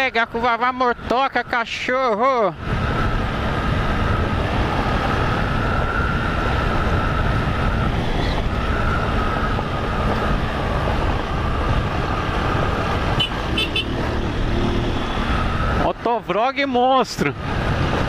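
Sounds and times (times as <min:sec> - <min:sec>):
motorcycle engine cruising: 0:00.0 - 0:18.0
tyre and road rumble: 0:01.8 - 0:18.0.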